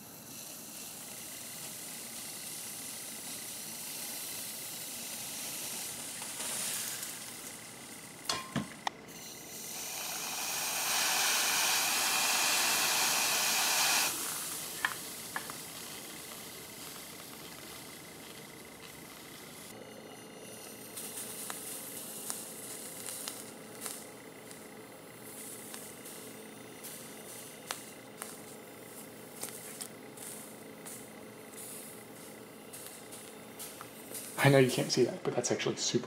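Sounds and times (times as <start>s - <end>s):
compressed air spraying hiss: 0.0s - 8.3s, 9.1s - 19.7s, 20.4s - 35.0s.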